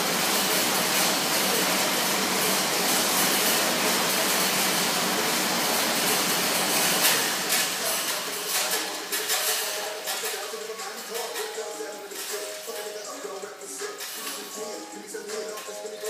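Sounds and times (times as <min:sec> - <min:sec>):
fan bike fan whooshing: 0:00.0 - 0:16.0.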